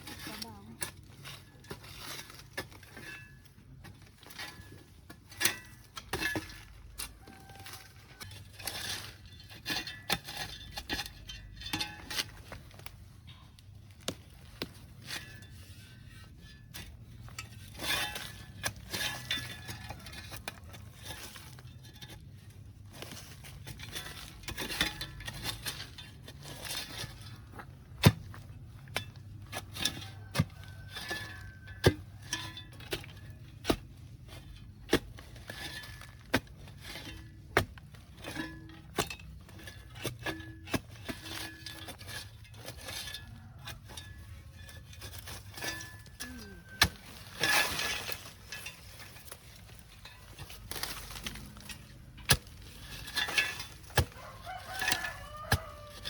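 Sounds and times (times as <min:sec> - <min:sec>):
soil and leaves rustling: 0:00.0 - 0:56.0
metal tool striking the ground: 0:00.1 - 0:22.2, 0:23.1 - 0:56.0.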